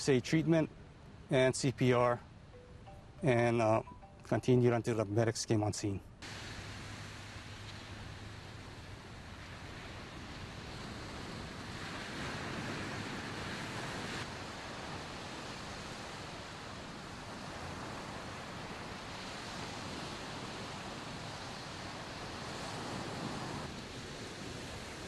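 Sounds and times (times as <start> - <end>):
wind: 0.0 - 25.0.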